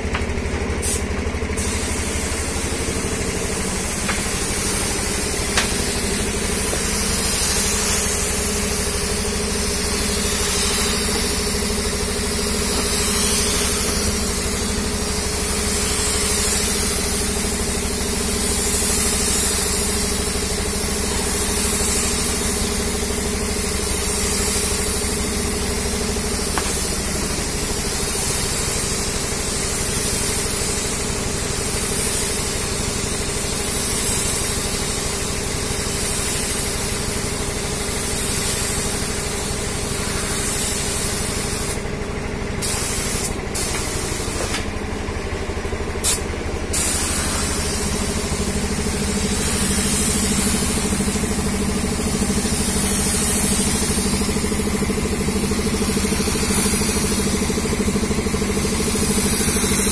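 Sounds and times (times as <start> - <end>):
low motor hum: 0.0 - 31.3, 37.4 - 59.9
paint spray gun hissing: 0.0 - 59.9.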